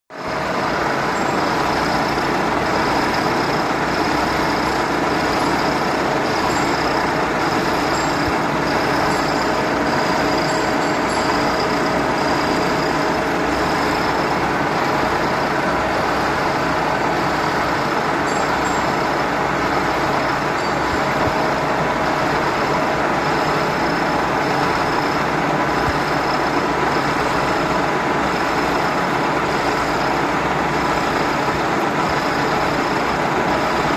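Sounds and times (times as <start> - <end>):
milling machine with pulsing whine: 0.1 - 33.9.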